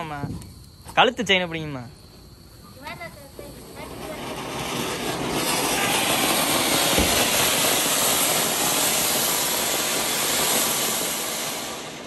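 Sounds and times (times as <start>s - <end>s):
fountain firework hissing: 0.0s - 12.0s.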